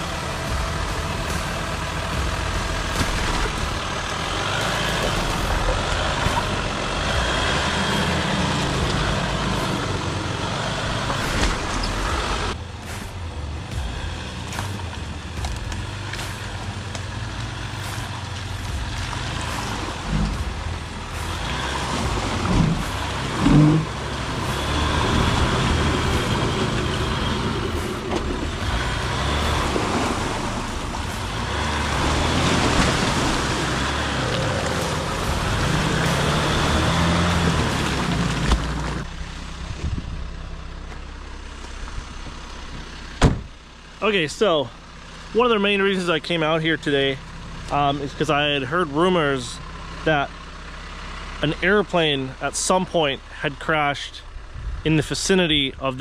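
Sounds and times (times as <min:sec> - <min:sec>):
car engine running at low speed: 0:00.0 - 0:56.0.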